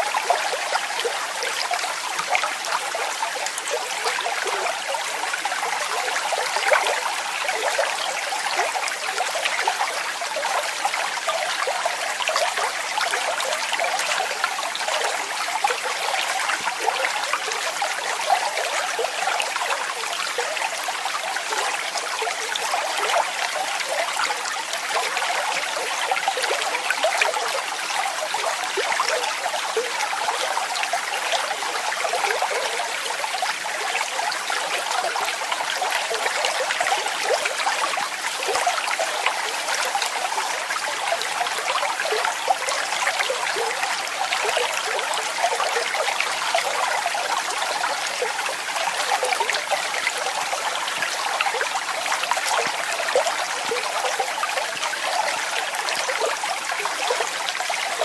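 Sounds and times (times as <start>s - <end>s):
water splashing and trickling: 0.0s - 58.0s.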